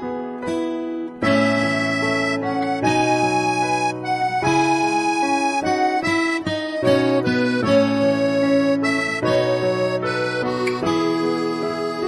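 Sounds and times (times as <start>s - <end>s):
reedy instrumental melody over chords: 0.0s - 12.0s.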